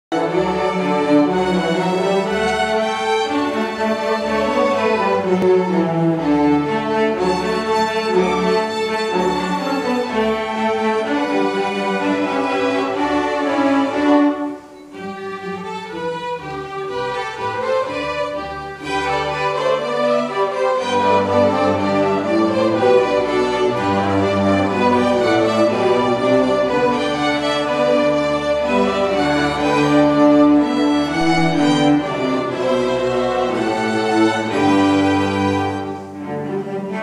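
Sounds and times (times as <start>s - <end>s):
string orchestra playing: 0.1s - 37.0s.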